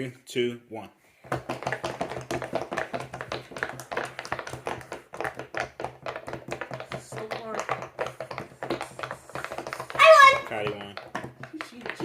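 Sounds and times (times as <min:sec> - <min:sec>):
pop-it bubbles popping: 0:01.3 - 0:12.0.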